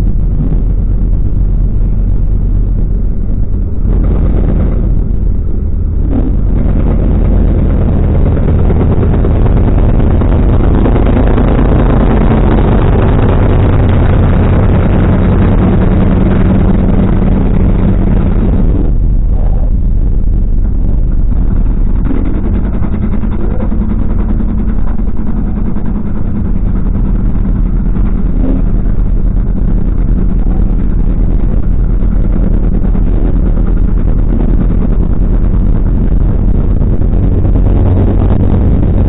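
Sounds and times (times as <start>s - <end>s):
car engine droning: 0.0s - 39.0s
road and wind noise: 0.0s - 39.0s.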